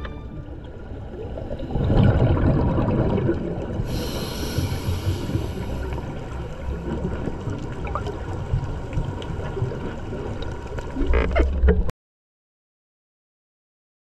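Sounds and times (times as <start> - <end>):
muffled underwater rumble: 0.0 - 11.9
underwater bubbling: 0.0 - 11.9.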